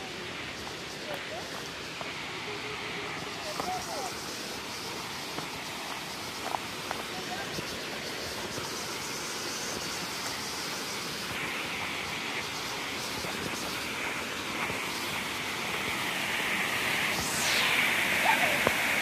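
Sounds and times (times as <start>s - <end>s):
waterfall rushing water: 0.0s - 19.0s.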